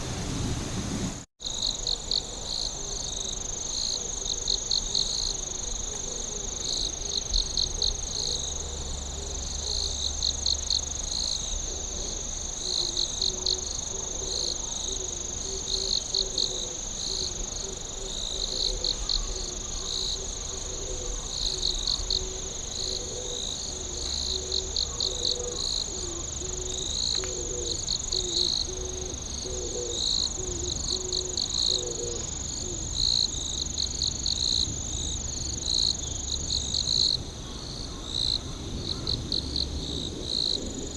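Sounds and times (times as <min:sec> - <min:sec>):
crickets chirping: 0:00.0 - 0:40.9
high continuous insect trill: 0:00.0 - 0:40.9
low pulsing insect call: 0:00.0 - 0:40.9.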